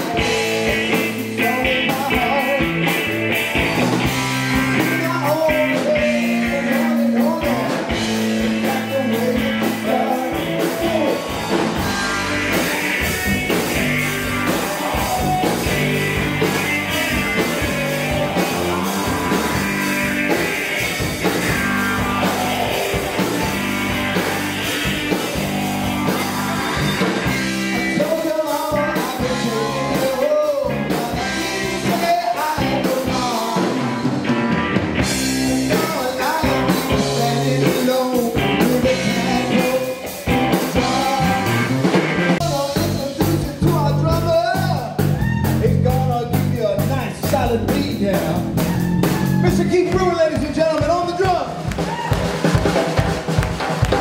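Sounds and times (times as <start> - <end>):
person singing: 0.0 - 3.2, 4.4 - 34.2, 35.4 - 52.0
bass guitar: 0.0 - 54.0
drums: 0.0 - 54.0
electric guitar: 0.0 - 54.0.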